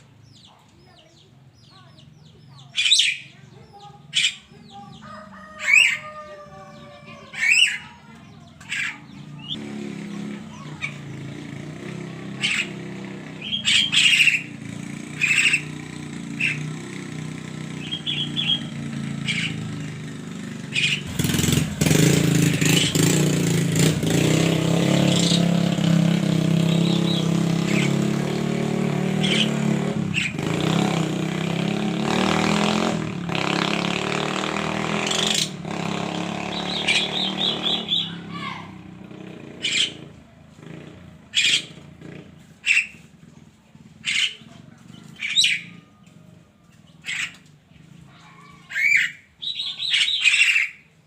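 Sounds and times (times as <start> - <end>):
bird chirps and calls: 0.0 - 51.0
steady engine: 6.6 - 48.1.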